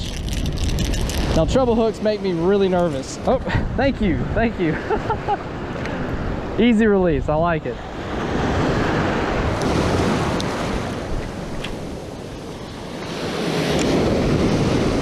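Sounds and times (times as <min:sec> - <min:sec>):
wind buffeting microphone: 0:00.0 - 0:15.0
surf waves breaking: 0:01.0 - 0:15.0.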